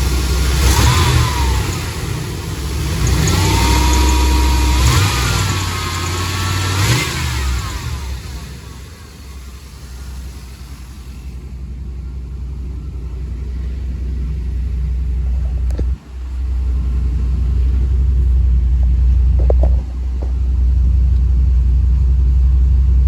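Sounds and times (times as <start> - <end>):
engine running with low rumble: 0.0 - 23.0.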